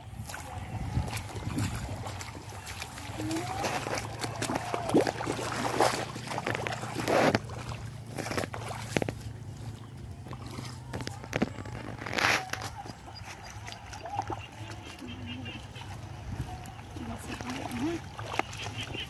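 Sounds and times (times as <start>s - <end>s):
boots sloshing through muddy water: 0.0s - 19.0s.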